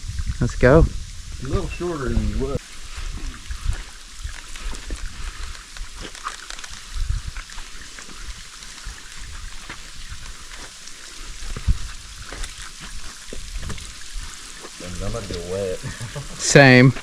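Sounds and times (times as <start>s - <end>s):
waterfall rushing: 1.4s - 5.2s, 6.6s - 17.0s.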